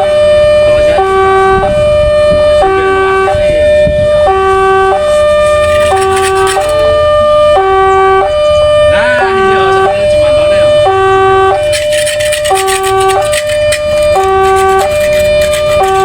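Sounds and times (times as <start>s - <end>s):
low rumble of road vehicles: 0.0s - 16.0s
two-tone crossing alarm: 0.0s - 16.0s.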